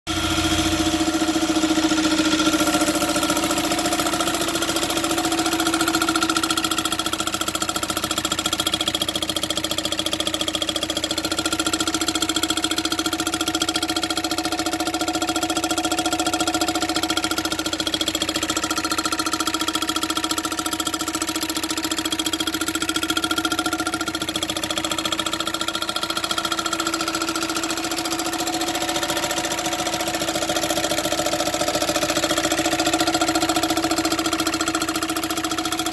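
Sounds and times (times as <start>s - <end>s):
turbodiesel car engine clattering: 0.1s - 35.9s.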